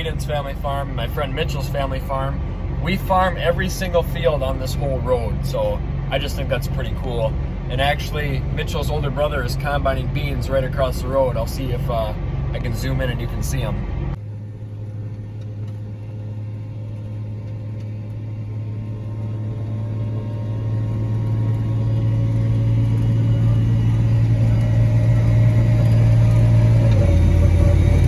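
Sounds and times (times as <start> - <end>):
farm machine diesel engine: 0.0 - 28.0.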